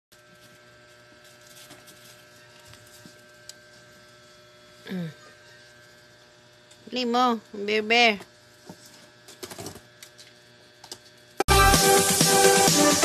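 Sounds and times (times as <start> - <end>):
low electrical hum: 0.1 - 11.4.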